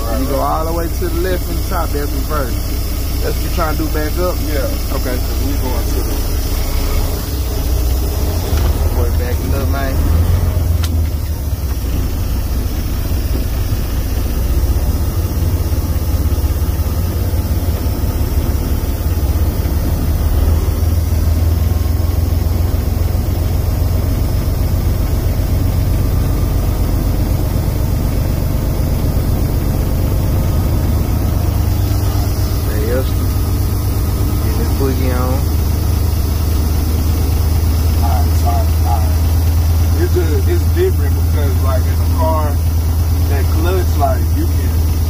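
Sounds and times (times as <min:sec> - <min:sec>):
diesel truck engine idling: 0:00.0 - 0:45.0.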